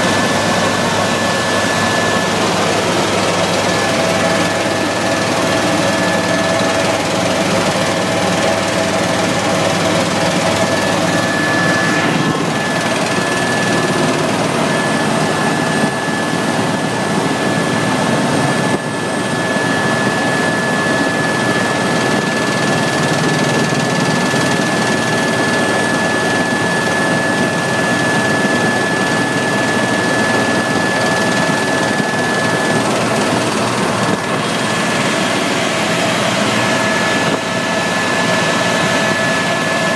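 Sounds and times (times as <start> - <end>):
helicopter engine and rotor noise: 0.0 - 39.9
high-pitched whine: 0.0 - 39.9.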